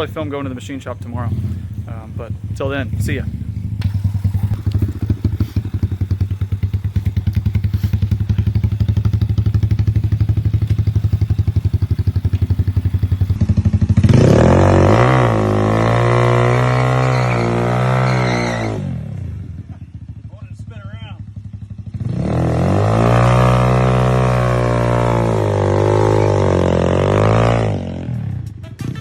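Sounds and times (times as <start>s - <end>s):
vehicle engine revving: 0.0s - 20.3s, 21.4s - 29.0s.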